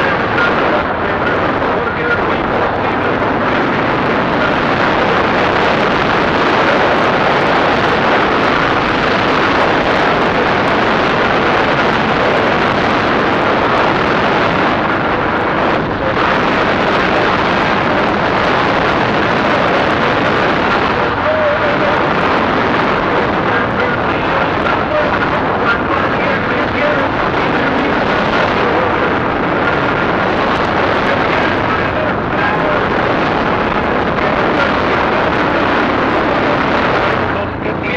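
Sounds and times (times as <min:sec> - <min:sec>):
wind rushing on microphone: 0:00.0 - 0:37.9.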